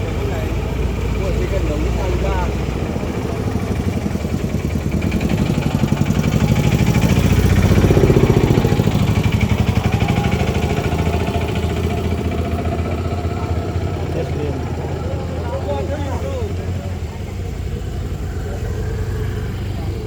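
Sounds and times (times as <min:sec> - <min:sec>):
motor engine running: 0:00.0 - 0:20.0.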